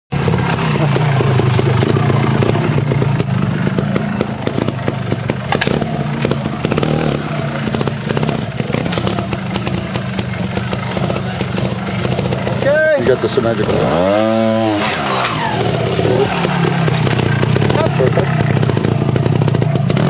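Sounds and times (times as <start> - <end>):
motorcycle engine at low revs: 0.1 - 20.0.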